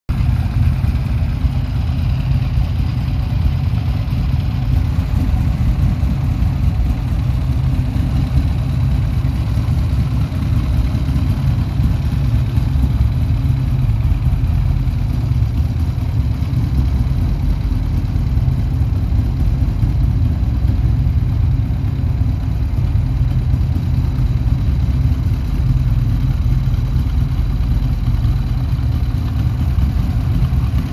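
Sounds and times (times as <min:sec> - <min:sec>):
motorcycle engine idling: 0:00.1 - 0:30.9.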